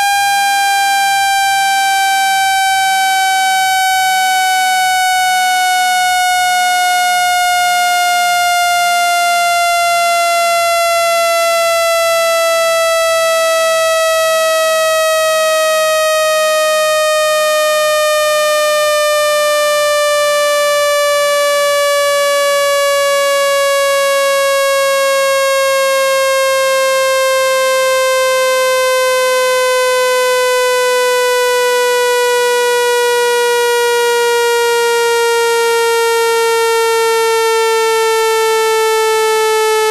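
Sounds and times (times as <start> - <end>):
buzzy tone gliding down in pitch: 0.0 - 39.9.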